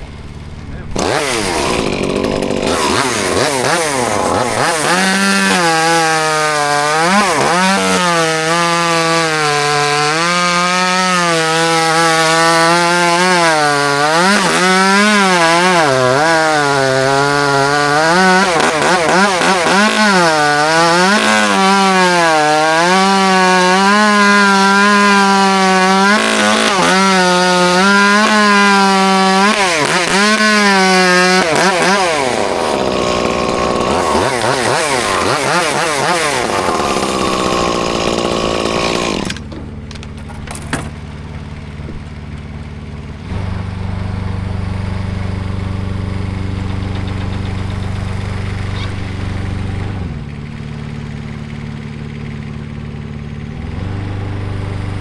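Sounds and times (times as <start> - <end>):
chainsaw cutting wood: 0.2 - 55.0.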